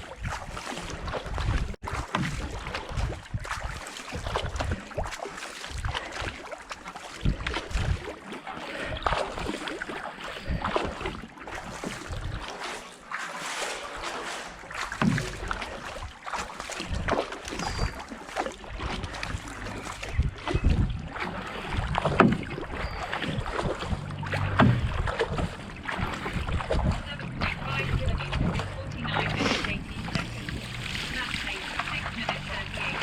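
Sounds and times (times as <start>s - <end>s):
kayak paddle splashing: 0.0s - 33.0s
water rushing past hull: 0.0s - 33.0s.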